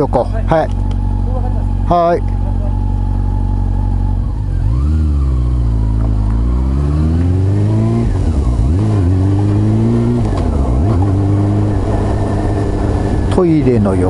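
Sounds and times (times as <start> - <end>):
motorcycle engine shifting through gears: 0.0 - 14.0.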